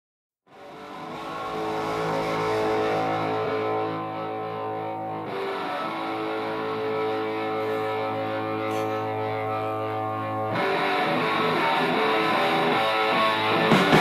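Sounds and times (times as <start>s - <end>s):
guitar background music: 0.5s - 14.0s.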